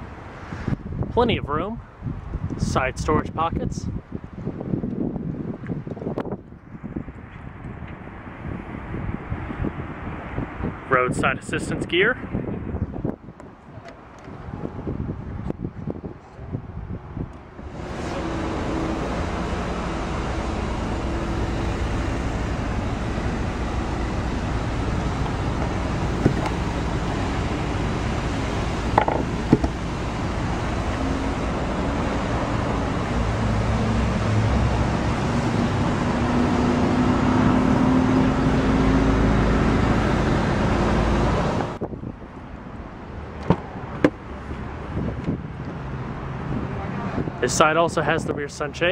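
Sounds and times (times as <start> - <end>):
road traffic rumble: 0.0 - 48.9.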